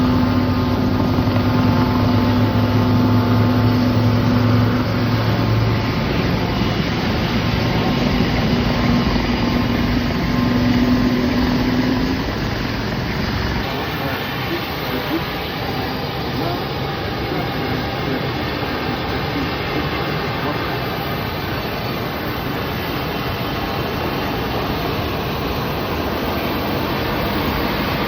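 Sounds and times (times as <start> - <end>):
aircraft engines droning: 0.0 - 28.0
low hum: 0.0 - 28.0.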